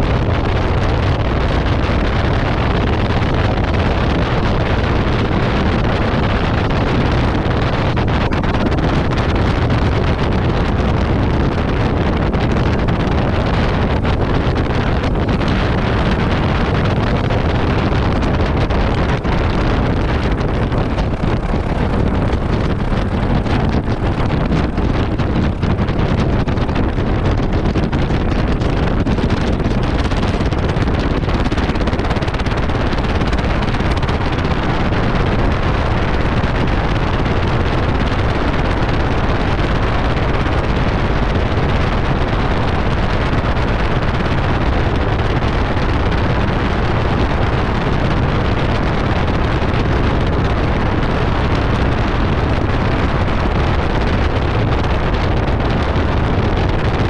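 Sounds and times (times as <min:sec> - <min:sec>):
airplane engine and propeller: 0:00.0 - 0:57.0
wind buffeting microphone: 0:00.0 - 0:57.0.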